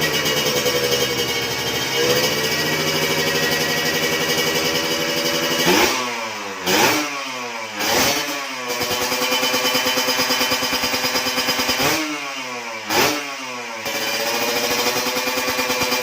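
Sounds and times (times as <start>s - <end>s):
motorcycle idling and revving: 0.0s - 16.0s.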